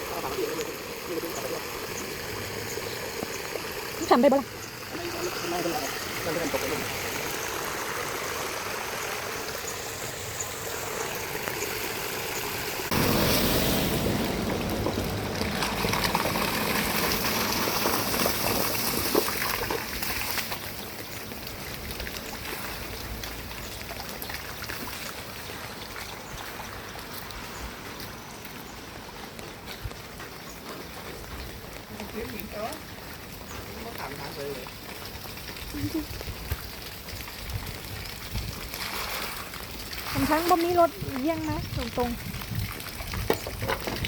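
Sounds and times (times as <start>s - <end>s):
floodwater rushing: 0.0s - 30.1s, 30.8s - 44.0s.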